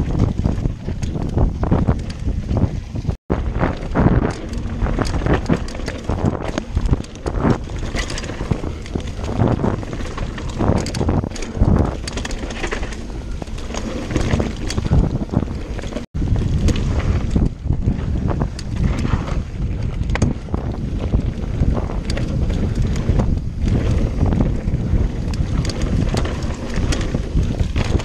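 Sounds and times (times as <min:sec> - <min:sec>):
bike clattering over bumps: 0:00.0 - 0:28.0
bike tyres on dirt: 0:00.0 - 0:28.0
wind rushing over microphone: 0:00.0 - 0:28.0.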